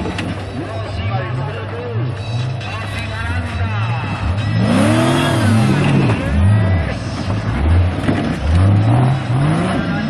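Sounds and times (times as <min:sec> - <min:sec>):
buggy engines revving: 0:00.0 - 0:10.0.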